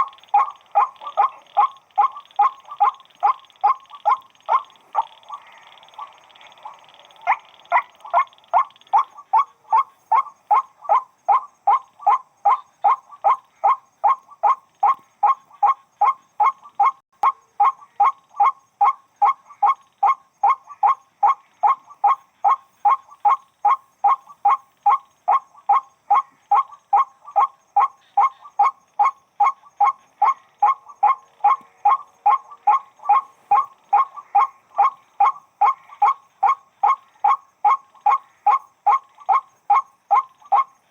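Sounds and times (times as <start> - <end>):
waterhen nasal calls: 0.0 - 40.9.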